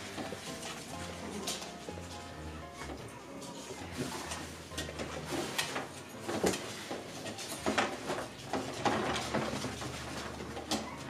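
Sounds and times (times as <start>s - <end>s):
puppies scuffling and knocking: 0.0s - 11.0s.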